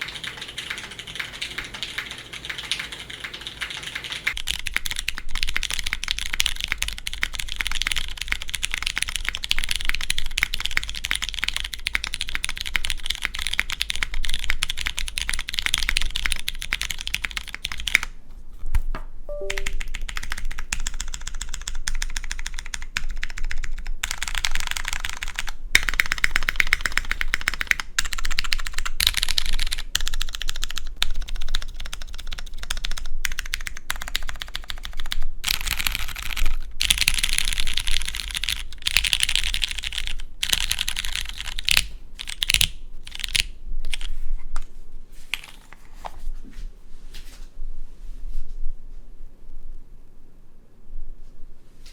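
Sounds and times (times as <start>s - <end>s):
mechanical keyboard typing: 0.0s - 18.1s, 19.3s - 44.2s.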